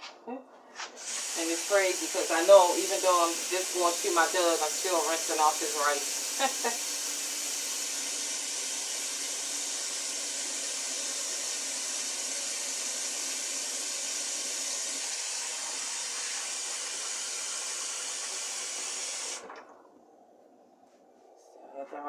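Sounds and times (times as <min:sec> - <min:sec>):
running water rinsing rice: 0:01.0 - 0:19.6.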